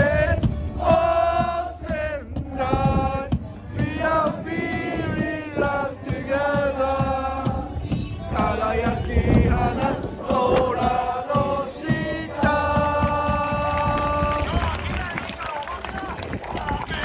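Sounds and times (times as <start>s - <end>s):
crowd of supporters chanting: 0.0s - 14.8s.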